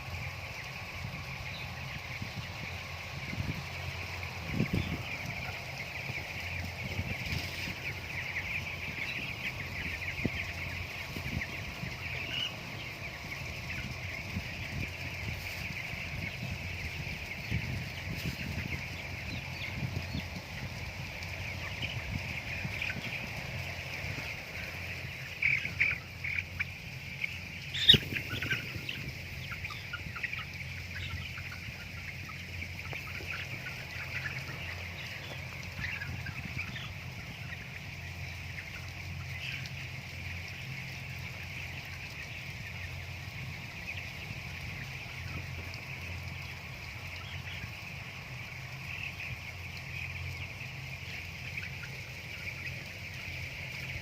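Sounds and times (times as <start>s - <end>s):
chickens cheeping: 0.0s - 54.0s.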